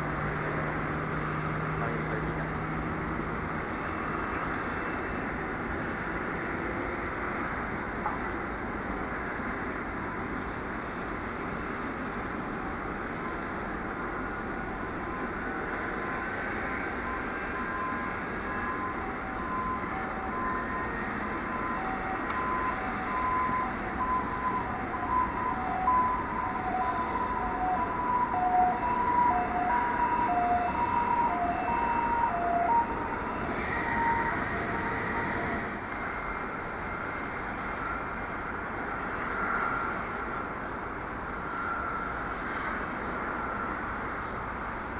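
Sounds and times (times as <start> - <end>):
jet engine noise: 0.0 - 44.9.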